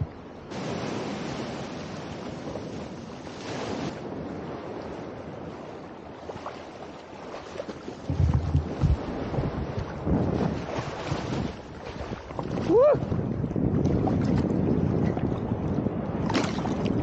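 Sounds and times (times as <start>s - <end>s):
wind on microphone: 0.0s - 17.0s
sea water splashing: 0.2s - 15.0s, 15.9s - 17.0s.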